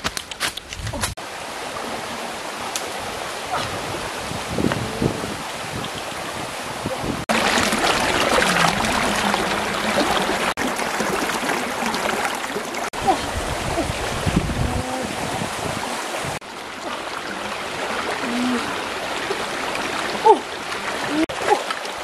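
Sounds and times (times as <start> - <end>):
stream rushing over rocks: 1.2 - 22.0.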